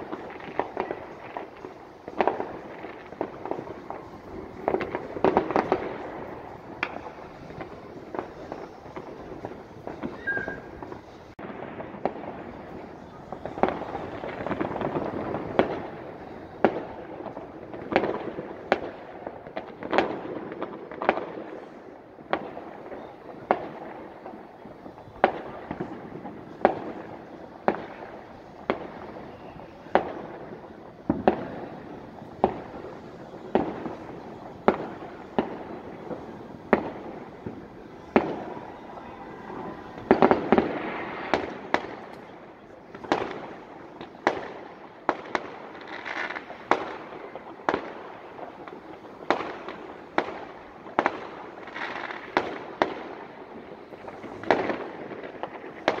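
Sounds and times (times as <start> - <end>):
distant fireworks bangs: 0.0 - 56.0.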